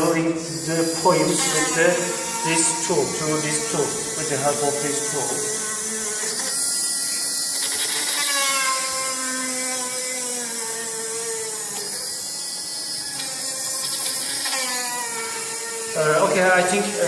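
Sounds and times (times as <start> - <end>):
drilling machine motor whine: 0.0 - 17.0.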